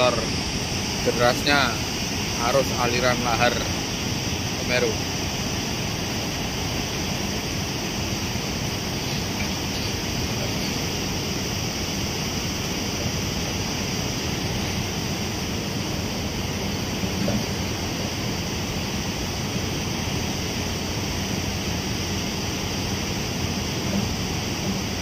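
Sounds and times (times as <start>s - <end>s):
muddy flood water roaring: 0.0s - 25.0s.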